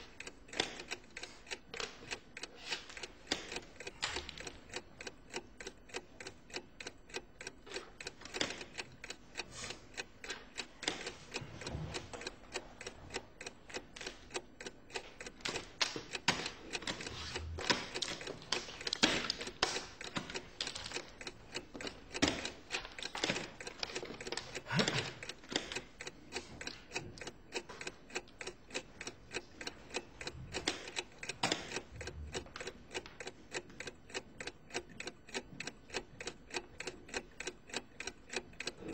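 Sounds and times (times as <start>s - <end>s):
rapid mechanical clicking: 0.0s - 38.9s.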